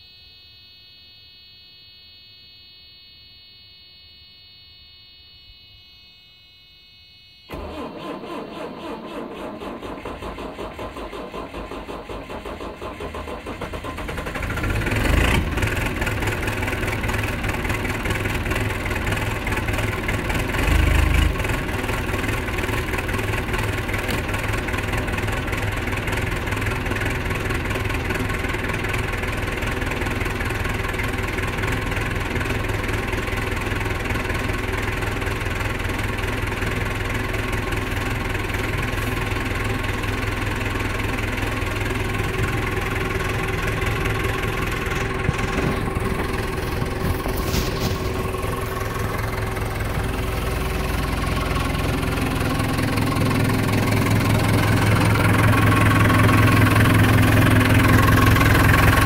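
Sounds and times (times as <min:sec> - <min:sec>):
diesel engine idling: 0:07.5 - 0:59.0.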